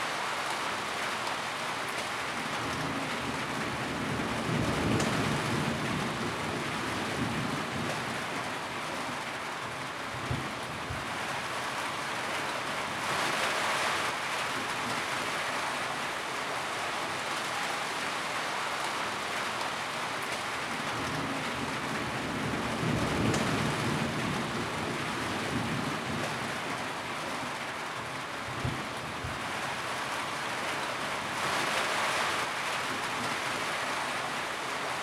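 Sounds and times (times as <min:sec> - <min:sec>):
rain on a tin roof: 0:00.0 - 0:35.0.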